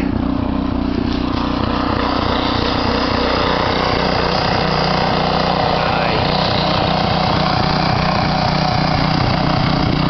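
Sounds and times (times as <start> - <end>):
snowblower engine running: 0.0 - 10.0.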